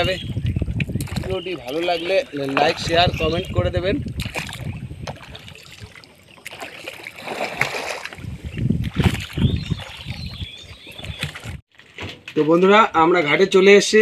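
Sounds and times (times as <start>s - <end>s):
water splashing against boat hull: 0.0s - 11.6s.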